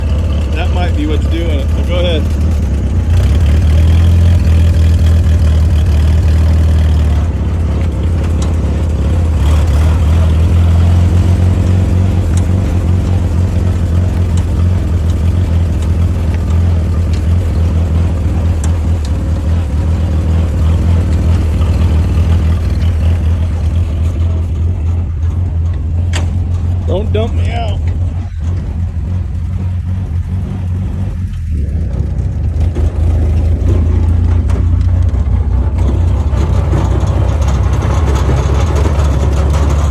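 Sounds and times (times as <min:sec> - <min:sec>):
jeep engine running: 0:00.0 - 0:39.9.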